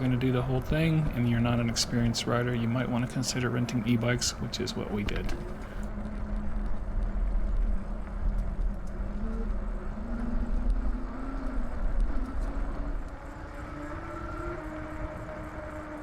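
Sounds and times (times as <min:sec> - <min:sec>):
faint wavering hum: 0:00.0 - 0:16.0
wind and bicycle ride noise: 0:00.0 - 0:16.0.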